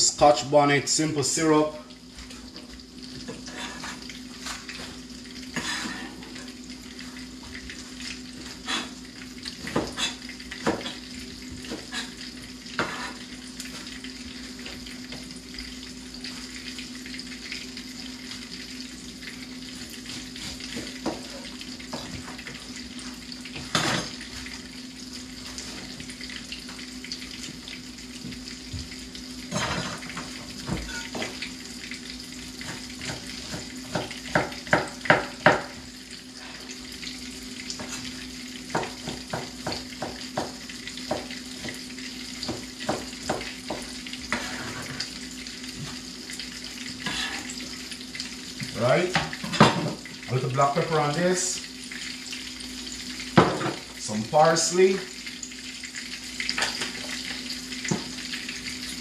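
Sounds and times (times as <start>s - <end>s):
fish sizzling in a frying pan: 0.4s - 59.0s.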